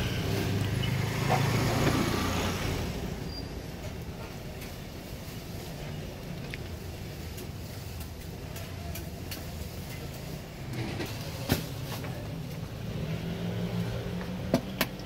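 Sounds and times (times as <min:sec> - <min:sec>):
street stall background rumble: 0:00.0 - 0:15.0.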